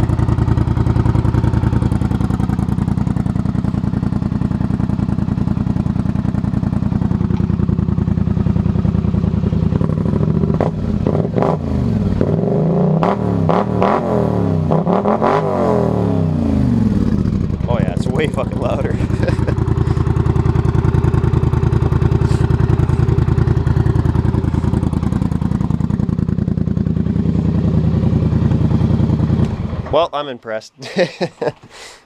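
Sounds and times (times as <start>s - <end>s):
atv engine revving: 0.0s - 30.1s.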